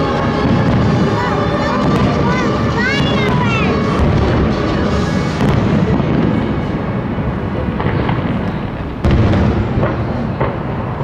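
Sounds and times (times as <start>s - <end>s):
fireworks booming: 0.0s - 11.0s
loud firework bang: 0.0s - 11.0s.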